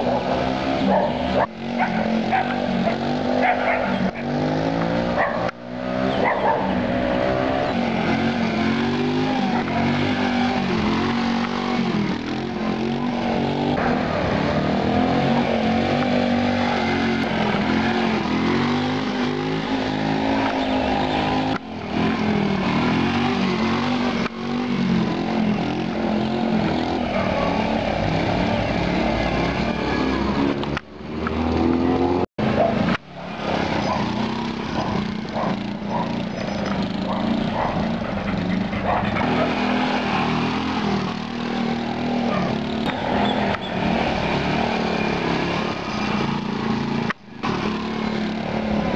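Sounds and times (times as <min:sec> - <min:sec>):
minibike engine revving: 0:00.0 - 0:48.9.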